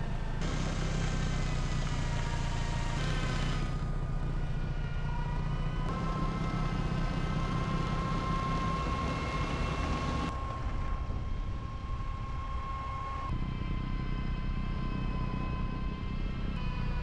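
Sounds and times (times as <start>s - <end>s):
tractor engine rumble: 0.0s - 17.0s.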